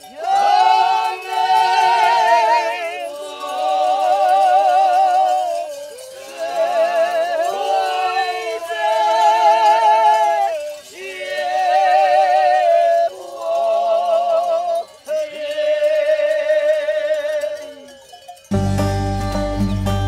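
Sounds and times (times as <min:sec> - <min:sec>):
group singing folk song in harmony: 0:00.0 - 0:17.4.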